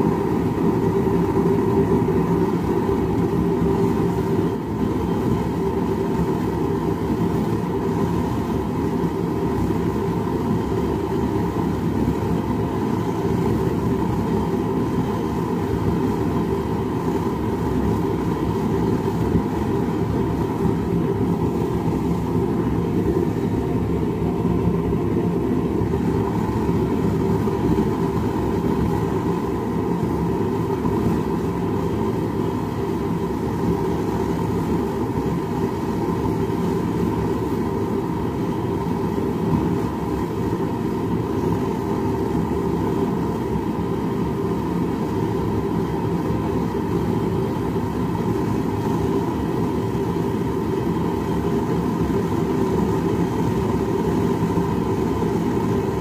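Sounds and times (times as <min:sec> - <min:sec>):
propane forge burner roaring: 0:00.0 - 0:56.0.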